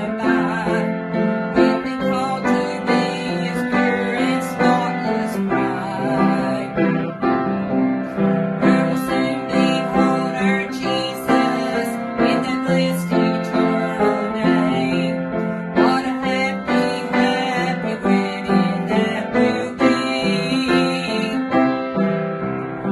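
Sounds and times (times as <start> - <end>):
gospel piano chords: 0.0 - 22.9
person singing: 0.0 - 22.9.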